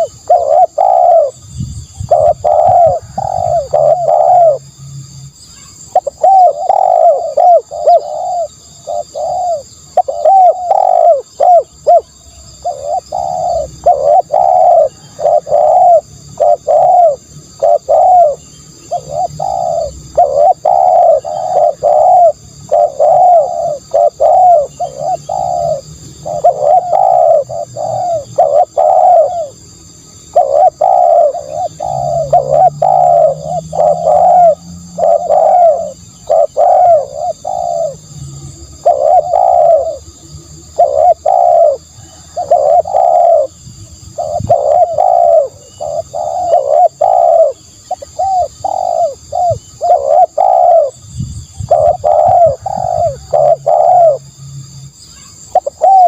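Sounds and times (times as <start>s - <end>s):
dove cooing: 0.0s - 4.8s, 5.6s - 54.4s, 55.2s - 56.0s.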